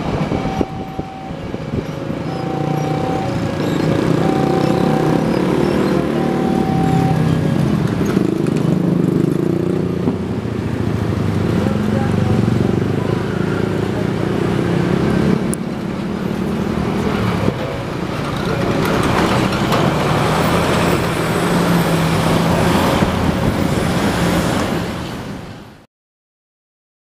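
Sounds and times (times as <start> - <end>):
train wheels rumbling on rail: 0.0 - 11.8, 14.8 - 25.5.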